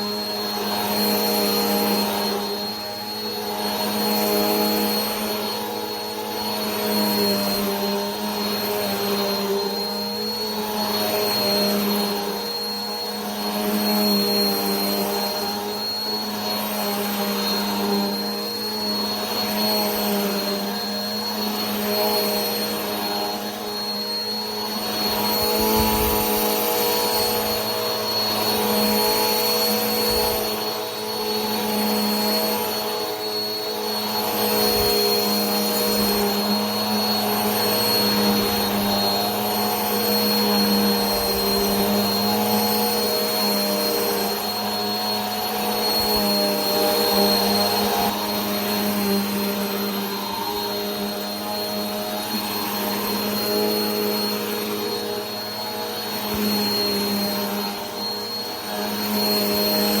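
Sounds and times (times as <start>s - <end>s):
vacuum cleaner motor running: 0.0s - 60.0s.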